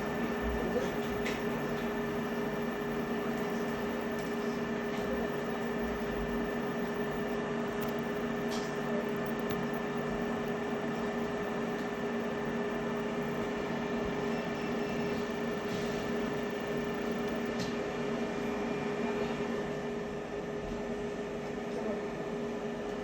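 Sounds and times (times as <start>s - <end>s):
steady machine hum: 0.0s - 21.4s.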